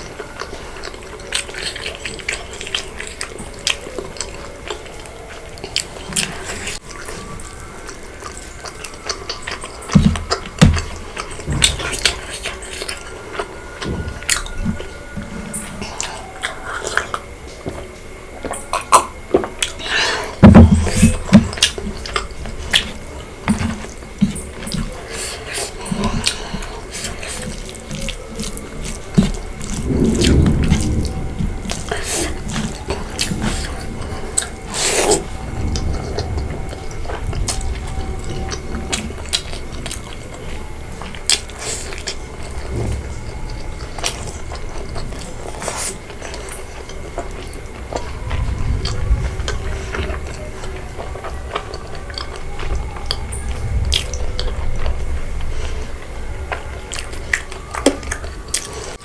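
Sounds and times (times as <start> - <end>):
wet chewing and mouth smacking: 0.0 - 59.0.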